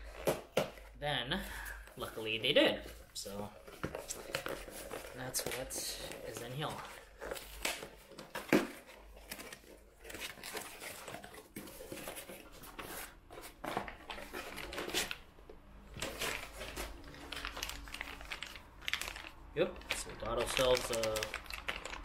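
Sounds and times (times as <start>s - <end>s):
cardboard and paper rustling tearing: 3.6s - 15.3s, 15.9s - 22.0s.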